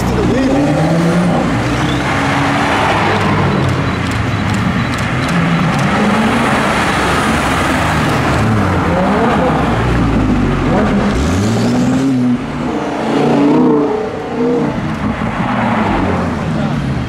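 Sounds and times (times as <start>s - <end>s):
cars driving past revving: 0.0s - 17.0s.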